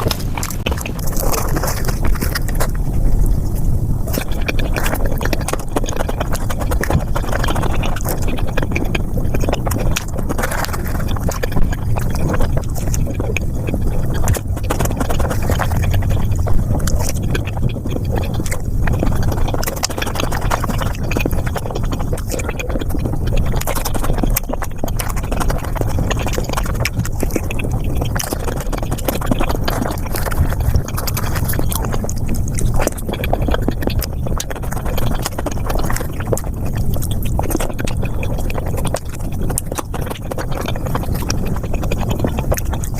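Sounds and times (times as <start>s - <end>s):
fast chewing and mouth smacking: 0.0s - 42.9s.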